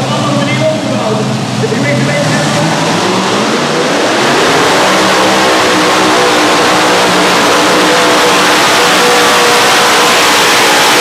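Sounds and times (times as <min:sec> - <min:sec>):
tractor engines revving at full power: 0:00.0 - 0:11.0.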